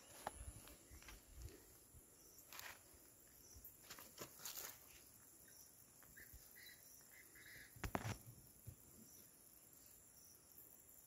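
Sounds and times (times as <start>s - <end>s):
insect buzz: 0.0s - 11.0s.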